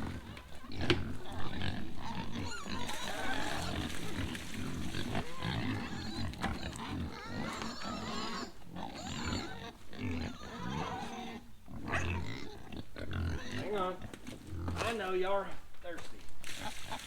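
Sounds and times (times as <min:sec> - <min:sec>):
pigs grunting and squealing: 0:00.0 - 0:15.2, 0:16.4 - 0:17.0.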